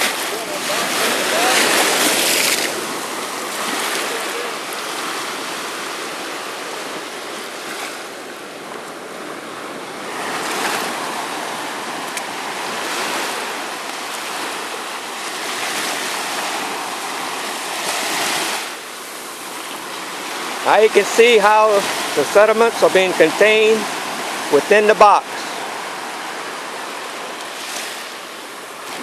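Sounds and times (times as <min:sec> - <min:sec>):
water washing over sand: 0:00.0 - 0:29.0.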